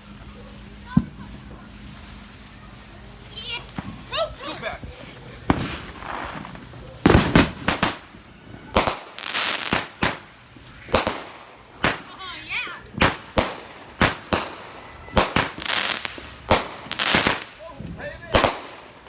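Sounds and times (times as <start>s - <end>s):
firework bangs: 0.0s - 19.0s
firework hiss: 0.0s - 19.0s.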